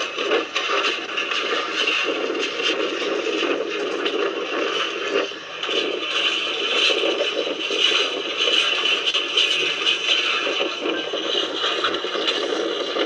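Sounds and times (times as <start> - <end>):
wind and rain rushing: 0.0 - 13.0.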